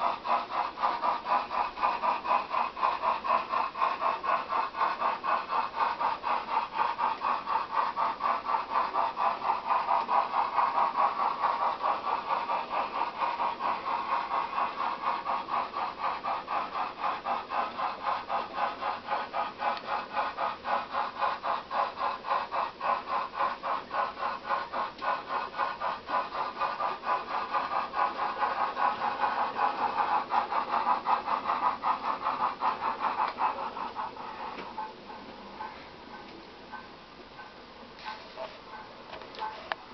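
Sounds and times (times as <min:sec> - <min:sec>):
model steam locomotive chuffs: 0:00.0 - 0:39.9.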